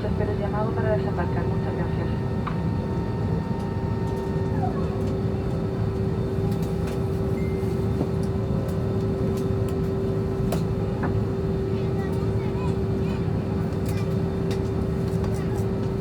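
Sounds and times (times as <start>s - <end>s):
airplane cabin rumble: 0.0s - 16.0s
idling jet engines hum: 0.0s - 16.0s.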